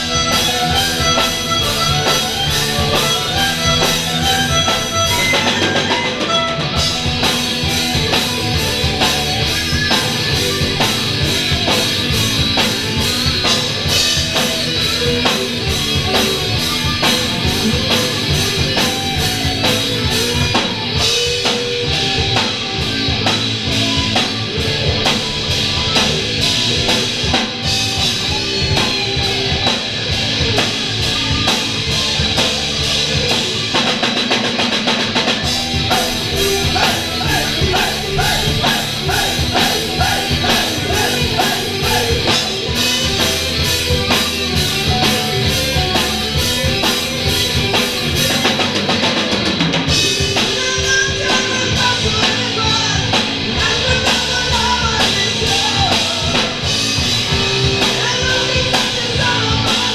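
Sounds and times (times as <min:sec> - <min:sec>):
electric guitars: 0:00.0 - 0:59.9
fast drum kit: 0:00.0 - 0:59.9.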